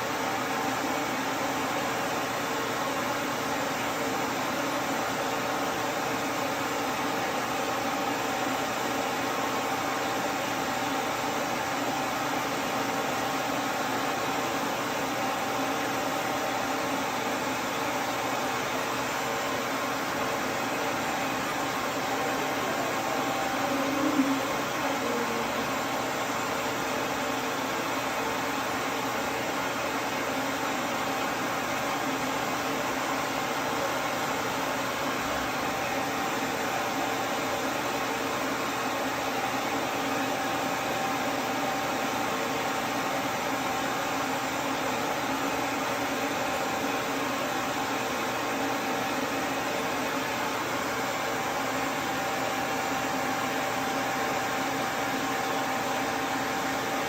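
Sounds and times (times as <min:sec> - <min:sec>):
pet dryer blower rushing air: 0:00.0 - 0:57.0.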